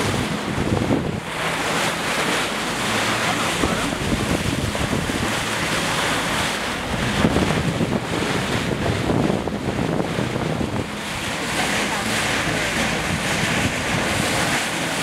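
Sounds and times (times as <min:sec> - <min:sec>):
water rushing past a hull: 0:00.0 - 0:15.0
wind buffeting microphone: 0:00.0 - 0:15.0.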